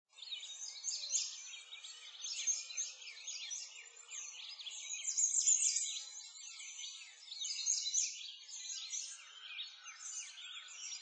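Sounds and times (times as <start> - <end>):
songbirds chirping: 0.1 - 11.0.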